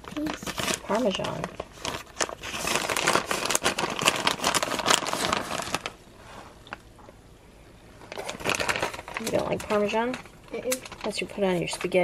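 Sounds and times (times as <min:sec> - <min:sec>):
plastic bag crinkling: 0:00.0 - 0:06.0, 0:08.0 - 0:12.0.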